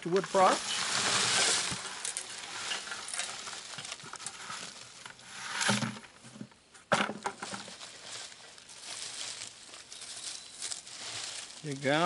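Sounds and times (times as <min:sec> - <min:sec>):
wood chips rustling and crackling: 0:00.0 - 0:06.1, 0:07.2 - 0:12.0.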